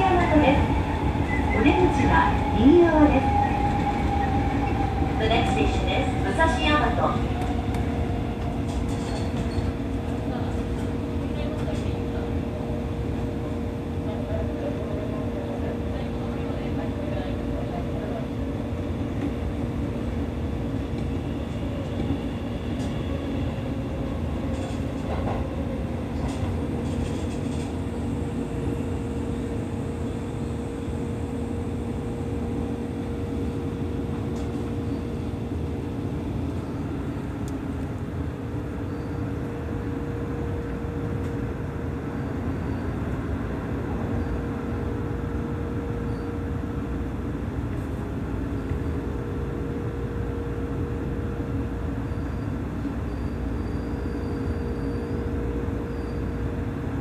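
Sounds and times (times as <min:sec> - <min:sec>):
electric train wheels rumbling on rail: 0:00.0 - 0:57.0
steady train hum: 0:00.0 - 0:57.0.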